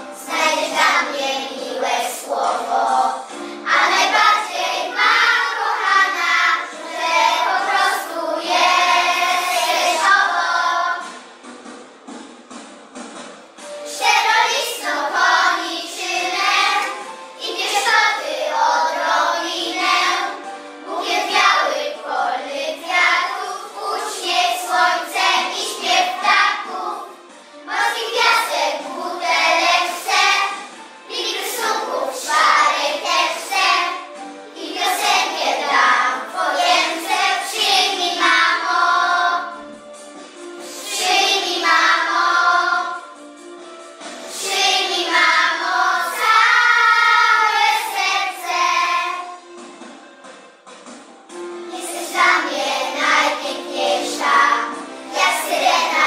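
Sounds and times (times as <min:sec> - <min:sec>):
young children singing: 0:00.0 - 0:11.4, 0:13.7 - 0:39.7, 0:40.6 - 0:43.2, 0:44.1 - 0:49.5, 0:51.6 - 0:56.0.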